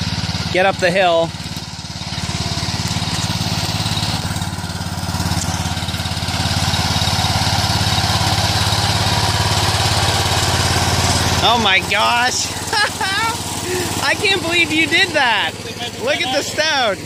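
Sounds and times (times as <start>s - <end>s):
garden tractor engine under load: 0.0s - 17.0s.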